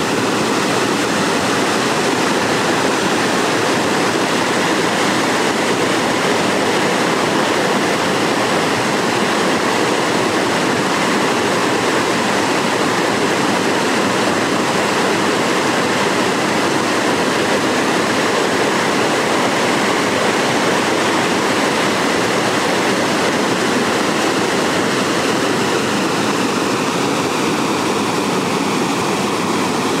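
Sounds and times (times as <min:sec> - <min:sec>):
stream rushing over boulders: 0:00.0 - 0:30.0.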